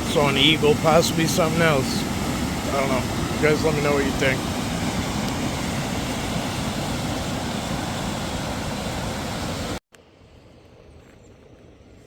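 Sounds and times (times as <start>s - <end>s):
creek water rushing: 0.0s - 9.8s.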